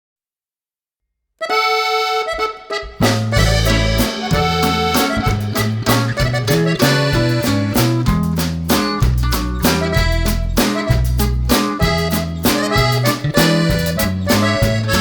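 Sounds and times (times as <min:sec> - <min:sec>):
accordion tune: 0:01.4 - 0:15.0
bass and percussion: 0:02.9 - 0:15.0.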